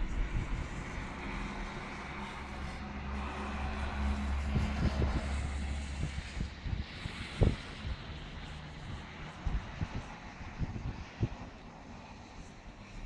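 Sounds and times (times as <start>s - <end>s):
steady low hum: 0.0s - 11.6s
gusty wind buffeting microphone: 0.0s - 13.0s.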